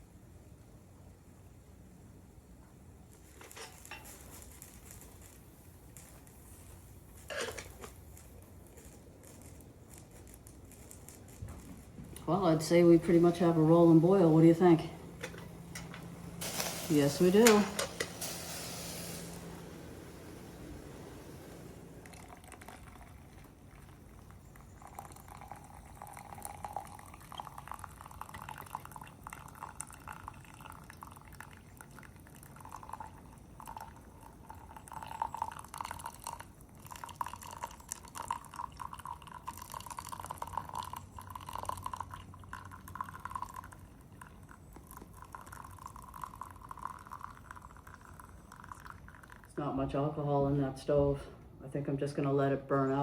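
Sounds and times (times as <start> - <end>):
hot water pouring through coffee filter: 3.0 - 49.9.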